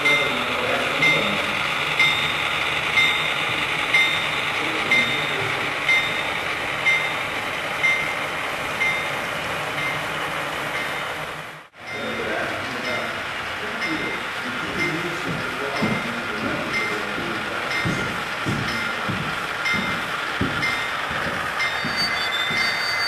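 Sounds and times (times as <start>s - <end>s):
model train running: 0.0s - 23.0s.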